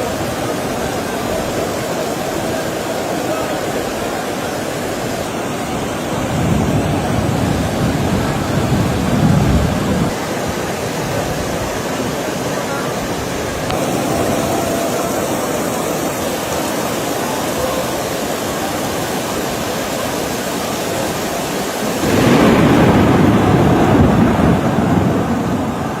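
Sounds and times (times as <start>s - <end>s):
torrential rain pouring: 0.0s - 26.0s.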